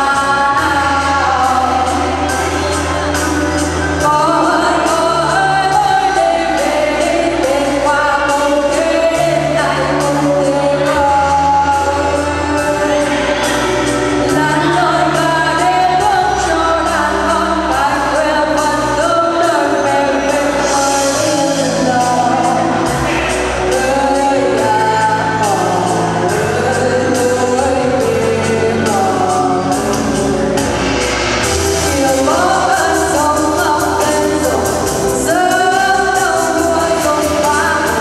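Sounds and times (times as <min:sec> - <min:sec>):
girl singing into a microphone: 0:00.0 - 0:03.0, 0:04.0 - 0:13.6, 0:14.2 - 0:22.7, 0:23.7 - 0:29.9, 0:31.9 - 0:38.0
backing track with bass and drums: 0:00.0 - 0:38.0.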